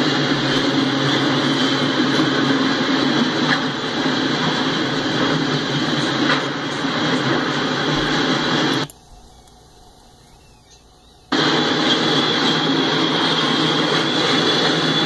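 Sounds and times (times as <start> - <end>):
steel train wheels on rails: 0.0 - 15.0.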